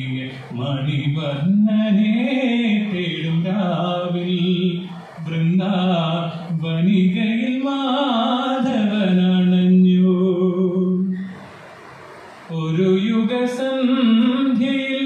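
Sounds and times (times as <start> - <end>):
man singing into a microphone: 0.0 - 11.3, 12.5 - 15.0.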